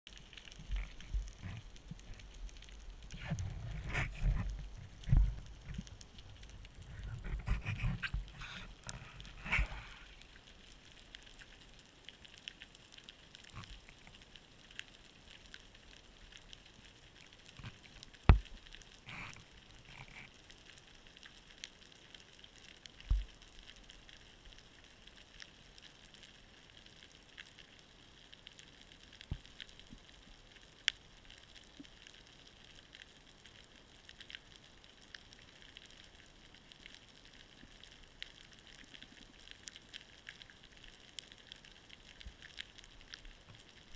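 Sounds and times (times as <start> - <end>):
underwater crackle of clicks: 0.1 - 43.9.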